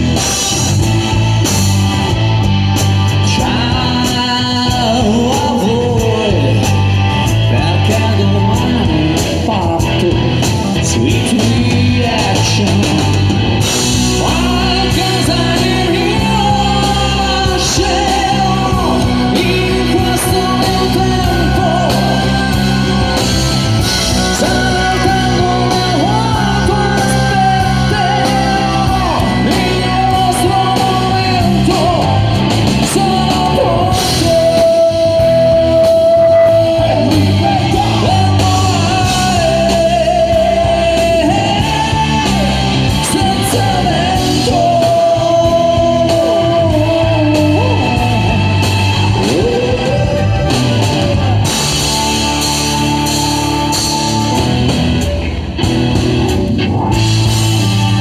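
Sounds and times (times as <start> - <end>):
lead vocals singing: 0.0 - 55.3
live rock band playing: 0.0 - 58.0.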